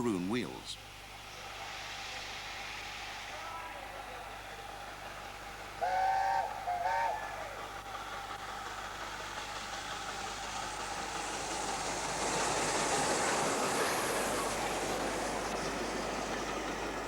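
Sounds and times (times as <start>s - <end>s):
steam train passing: 0.0s - 17.0s.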